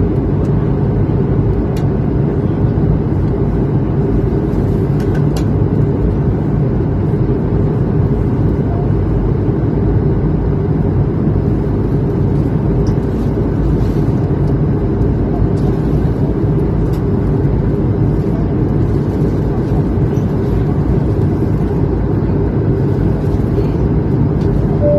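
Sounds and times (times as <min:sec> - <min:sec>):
airliner cabin drone: 0:00.0 - 0:24.9.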